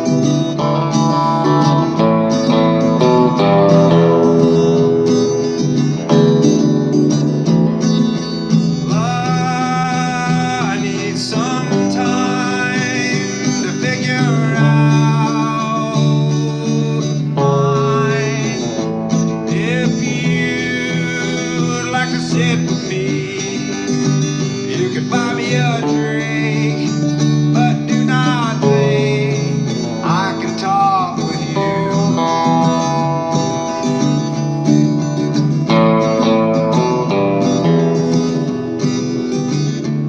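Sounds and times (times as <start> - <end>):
country guitar music: 0.0 - 40.0.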